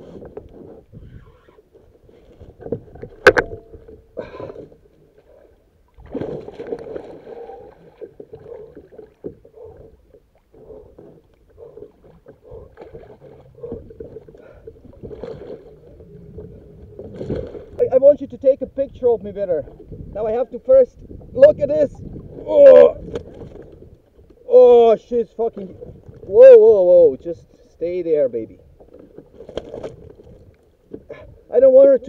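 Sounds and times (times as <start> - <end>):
water movement: 0.0 - 32.0.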